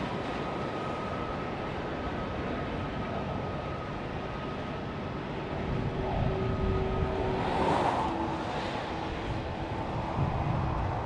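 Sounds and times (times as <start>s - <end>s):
thin whining tones: 0.4s - 10.4s.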